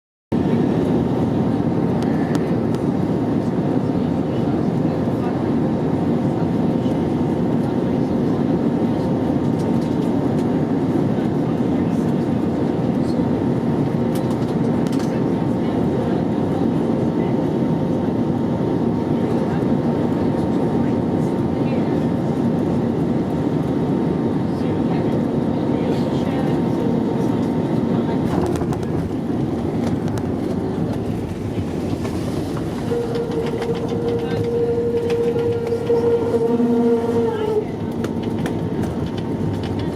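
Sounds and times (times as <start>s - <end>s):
aircraft engine cabin roar: 0.3s - 39.9s
heavy rumble of wheels: 0.3s - 39.9s.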